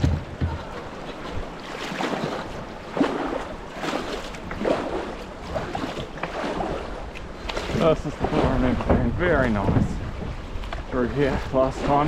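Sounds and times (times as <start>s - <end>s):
kayak paddle splashing water: 0.0s - 12.0s.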